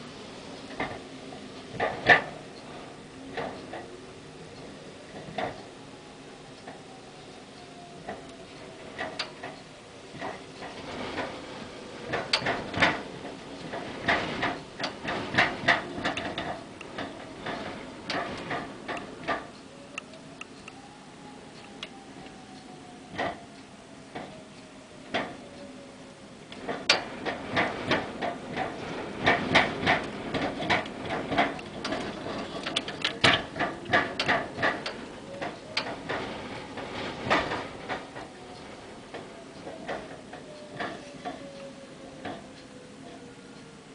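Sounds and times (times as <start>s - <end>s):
gusty wind and rain: 0.0s - 43.9s
faint wind whistle: 2.4s - 43.9s.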